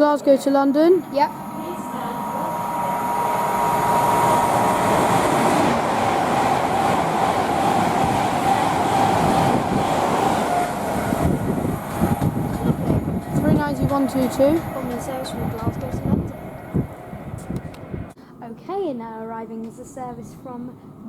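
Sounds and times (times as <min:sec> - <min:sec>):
train whine dropping in pitch: 0:00.0 - 0:18.1
electric train passing: 0:00.0 - 0:18.2.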